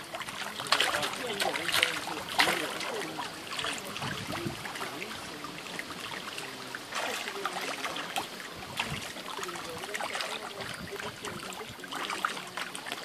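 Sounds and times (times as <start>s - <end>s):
fish splashing at water surface: 0.0s - 13.0s.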